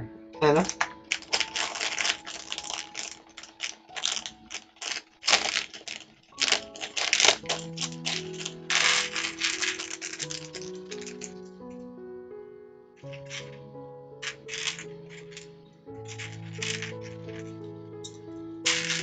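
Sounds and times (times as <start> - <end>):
soft background music: 0.0 - 19.0
plastic pieces rattling in bag: 0.4 - 11.5, 13.0 - 13.6, 14.2 - 19.0
pieces clattering into plastic tray: 0.5 - 11.4, 13.0 - 13.6, 14.2 - 15.5, 16.1 - 19.0.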